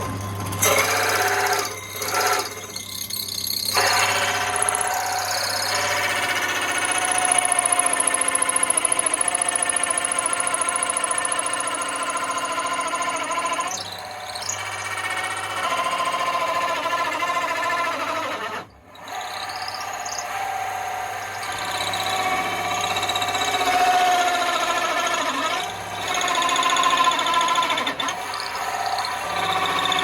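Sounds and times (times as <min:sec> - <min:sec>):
electric drill boring into wood: 0:00.0 - 0:30.0.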